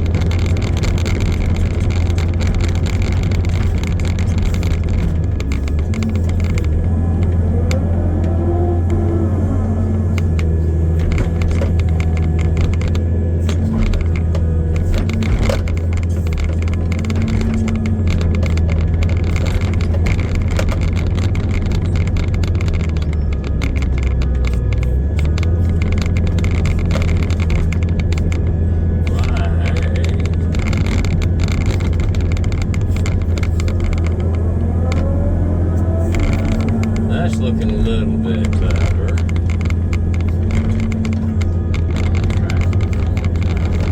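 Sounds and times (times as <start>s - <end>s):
heavy machine engine running: 0.0s - 43.9s
machine rattles and clicks: 0.0s - 43.9s.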